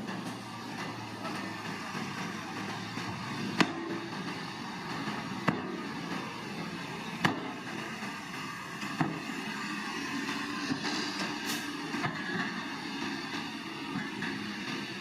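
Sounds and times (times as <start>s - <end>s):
bulldozer engine running: 0.0s - 15.0s.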